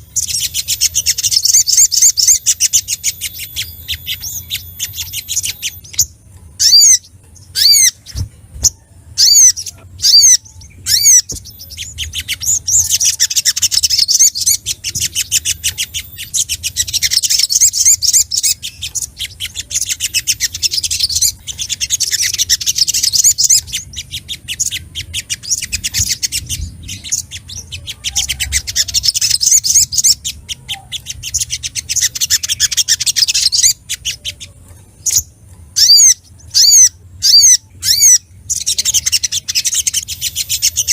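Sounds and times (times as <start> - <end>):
bird chirps and chattering song: 0.0 - 40.9.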